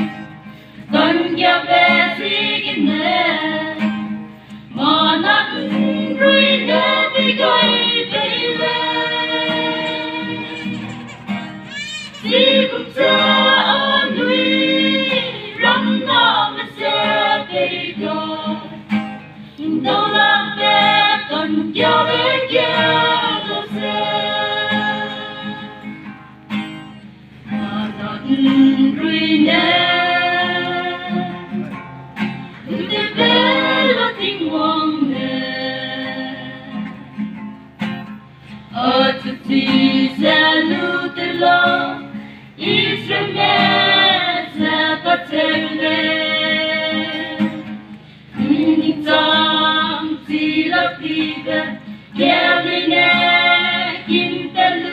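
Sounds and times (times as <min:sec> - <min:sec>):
group singing a hymn: 0:00.0 - 0:11.0, 0:12.2 - 0:26.2, 0:27.4 - 0:31.7, 0:32.6 - 0:37.3, 0:38.7 - 0:54.9
guitar accompaniment: 0:00.0 - 0:54.9.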